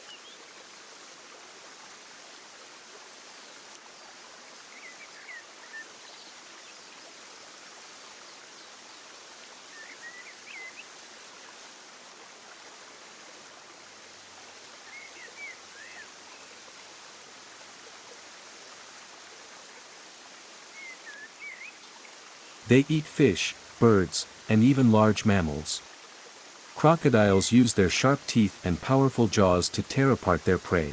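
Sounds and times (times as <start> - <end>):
flowing water: 0.0 - 30.9.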